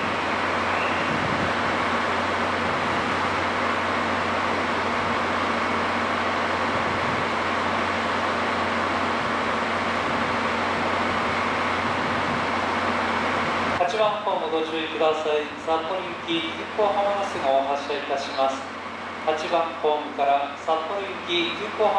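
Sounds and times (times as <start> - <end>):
train mechanical hum: 0.0 - 21.9.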